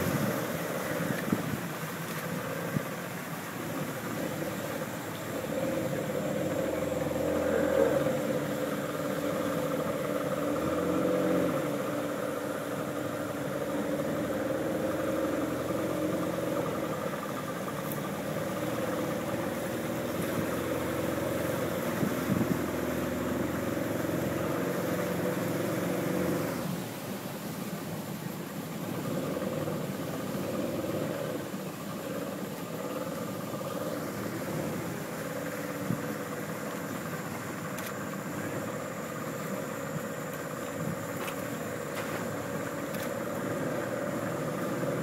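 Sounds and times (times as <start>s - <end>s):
boat engine running: 0.0s - 45.0s.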